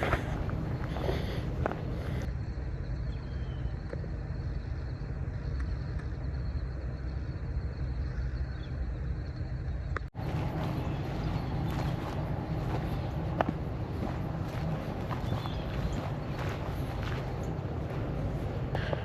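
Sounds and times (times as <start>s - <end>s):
vehicle driving rumble: 0.0s - 19.0s.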